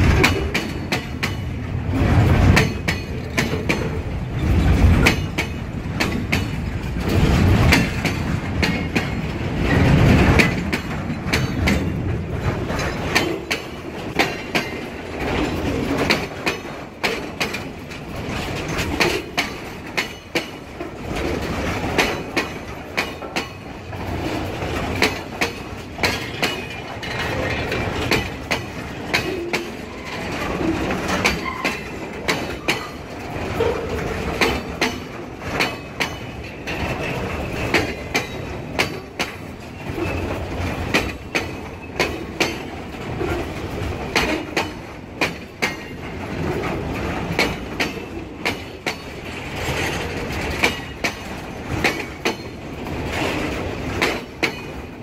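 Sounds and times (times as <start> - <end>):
freight train rumble and rattle: 0.0 - 55.0
wheels clacking over rail joints: 0.0 - 55.0.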